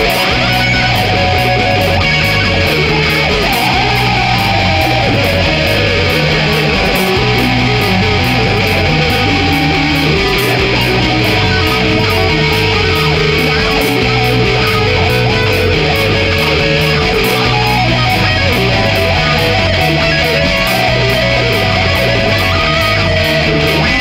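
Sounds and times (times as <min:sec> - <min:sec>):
instrumental rock music: 0:00.0 - 0:24.0.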